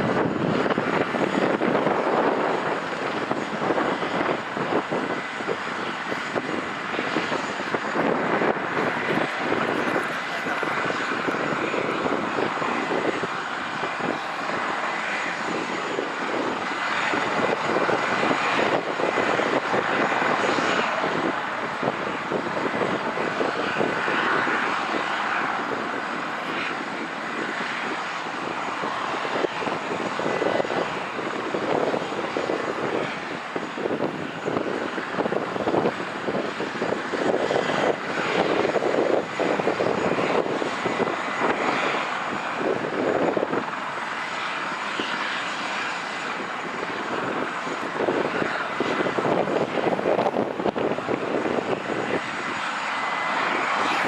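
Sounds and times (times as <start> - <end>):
high engine whine: 0.0 - 54.0
jet engines rushing: 0.0 - 54.0.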